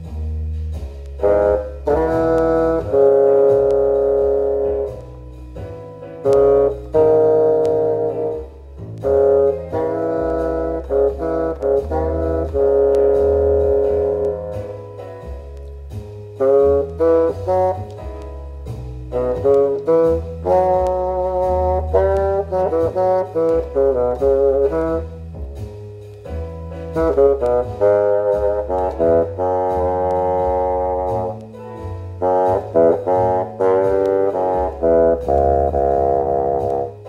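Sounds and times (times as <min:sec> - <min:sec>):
contrabassoon melody: 0:00.0 - 0:37.0
sustained low contrabassoon line: 0:00.0 - 0:37.0.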